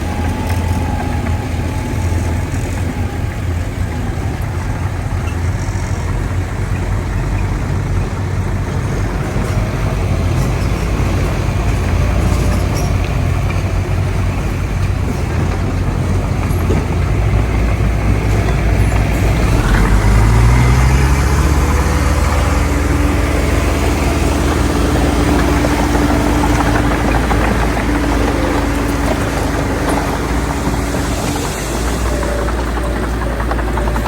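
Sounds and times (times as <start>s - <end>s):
diesel machinery engine under load: 0.0s - 34.0s.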